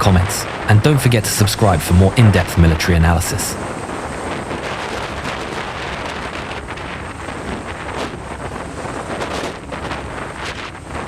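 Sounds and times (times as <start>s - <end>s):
rushing wind: 0.0s - 11.0s
sea noise: 0.0s - 11.0s.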